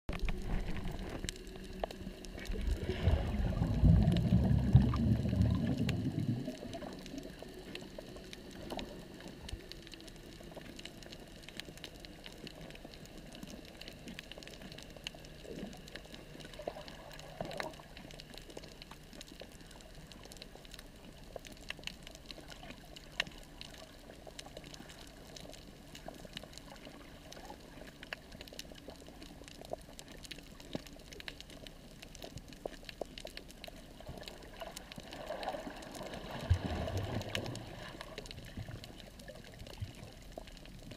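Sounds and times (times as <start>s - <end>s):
bubbling churning water: 0.1s - 40.9s
crackling clicks underwater: 0.1s - 40.9s
faint steady hiss: 0.1s - 40.9s.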